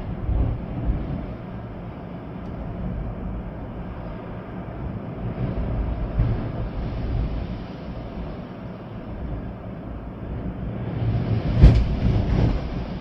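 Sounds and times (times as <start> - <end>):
rain: 0.0 - 13.0
storm wind gusting: 0.0 - 13.0.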